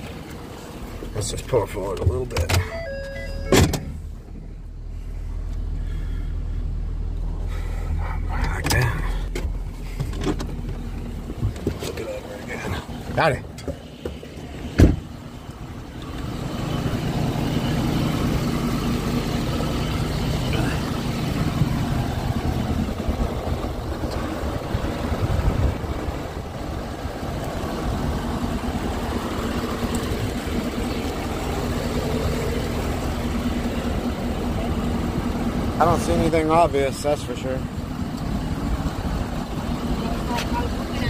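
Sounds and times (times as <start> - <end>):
pickup engine idling: 0.0 - 41.0.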